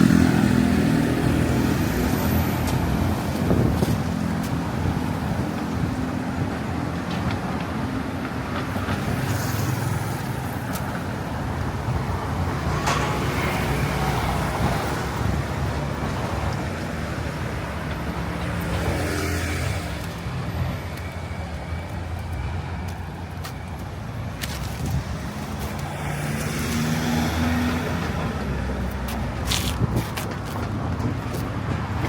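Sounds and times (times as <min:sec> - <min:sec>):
traffic hum: 0:00.0 - 0:32.0
vehicles passing close by: 0:00.0 - 0:32.0.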